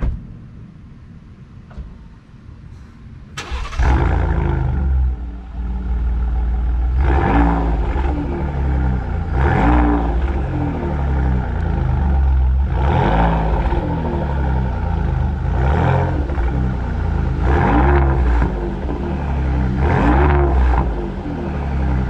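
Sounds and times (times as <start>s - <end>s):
truck engine starting and revving: 3.3s - 22.0s.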